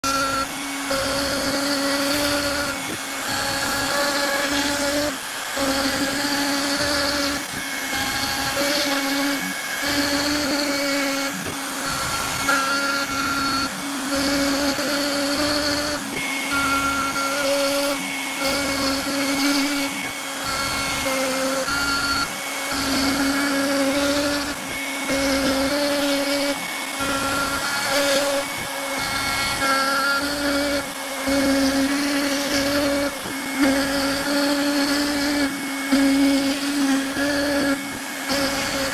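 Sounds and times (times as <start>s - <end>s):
router bit carving wood: 0.0s - 38.9s
router spindle whining: 0.0s - 38.9s.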